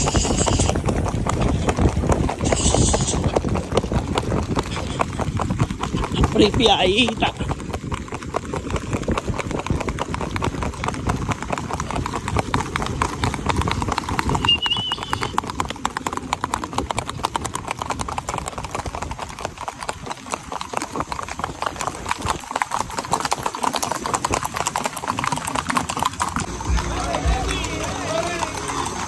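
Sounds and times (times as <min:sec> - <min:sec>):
hoofbeats on paved road: 0:00.0 - 0:29.0.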